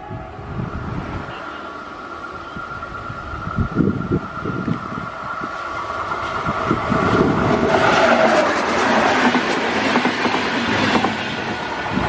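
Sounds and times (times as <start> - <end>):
train passing at speed: 0.0 - 12.0
train whine: 0.0 - 12.0.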